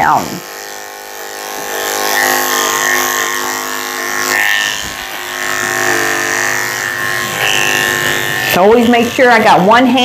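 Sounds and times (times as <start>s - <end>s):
electric clippers buzzing: 0.0s - 10.0s.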